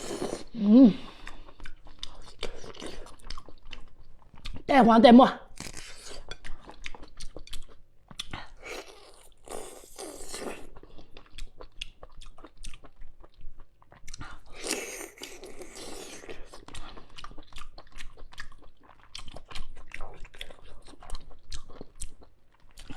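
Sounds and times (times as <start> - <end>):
wet chewing and smacking: 1.1 - 4.7, 5.5 - 22.9.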